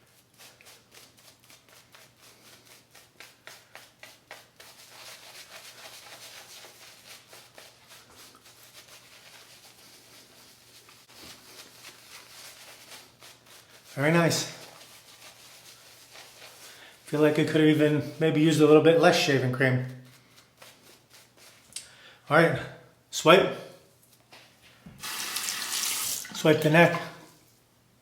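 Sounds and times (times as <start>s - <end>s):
shaving brush lathering: 0.1s - 21.7s, 25.0s - 27.3s.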